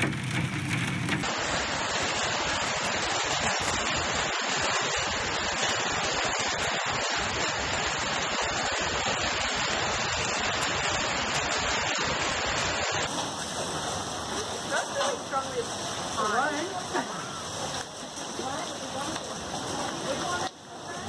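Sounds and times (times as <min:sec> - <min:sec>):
hail pelting down: 0:00.0 - 0:21.0
hail splashing into pool: 0:00.0 - 0:21.0.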